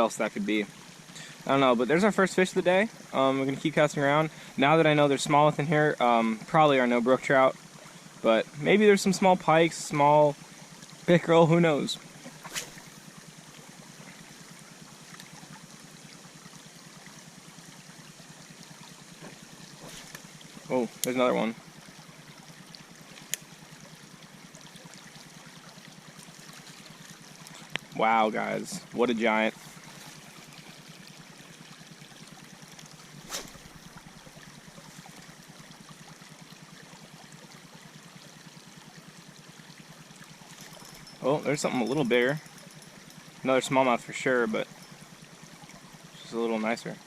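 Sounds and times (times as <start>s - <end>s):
creek water running: 0.0s - 47.0s.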